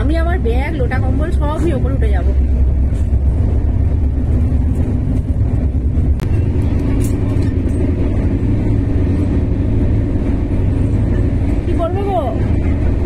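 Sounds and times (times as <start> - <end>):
train coach rumbling in motion: 0.0 - 13.0.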